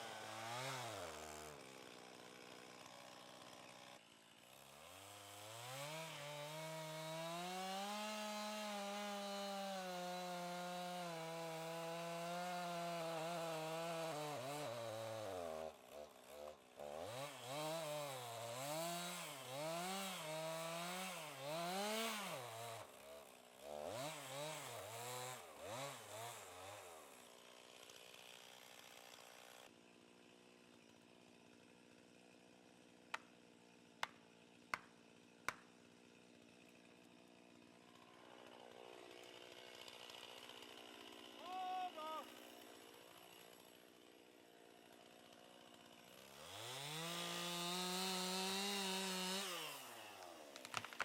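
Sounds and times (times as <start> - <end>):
chainsaw revving: 0.0 - 51.0.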